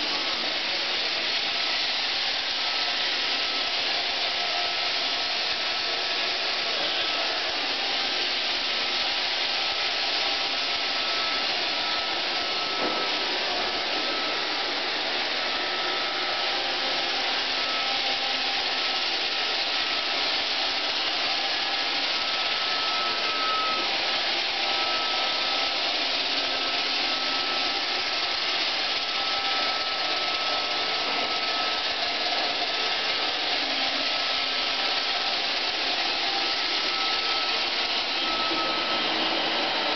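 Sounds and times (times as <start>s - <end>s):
robot vacuum whirring: 0.0s - 39.9s
thin steady whine: 0.0s - 39.9s.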